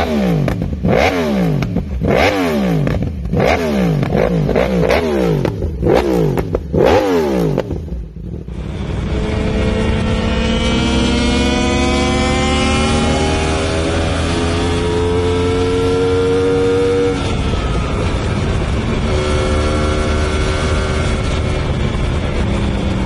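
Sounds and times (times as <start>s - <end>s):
motorcycle engine accelerating: 0.0s - 23.0s
motorcycle engine revving: 0.0s - 23.0s.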